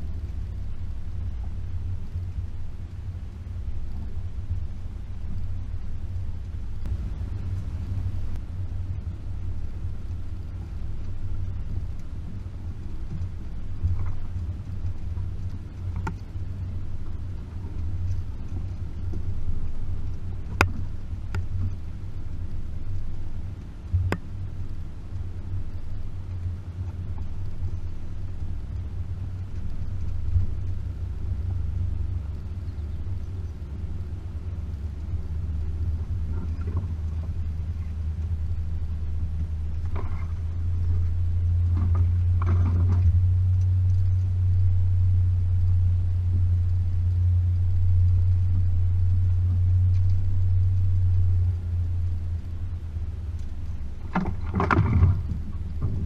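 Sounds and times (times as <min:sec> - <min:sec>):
car engine droning while driving: 0:00.0 - 0:56.0.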